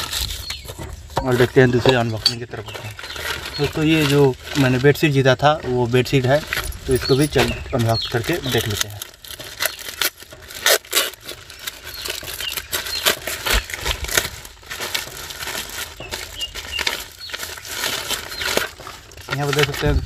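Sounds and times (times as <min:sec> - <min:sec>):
plastic bag ripping: 0:00.0 - 0:20.0
plastic bag rustling and crackling: 0:00.0 - 0:20.0.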